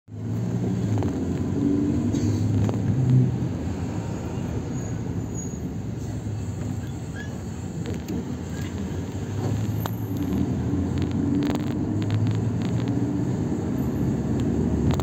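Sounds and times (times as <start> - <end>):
minibus engine running: 0.1 - 15.0.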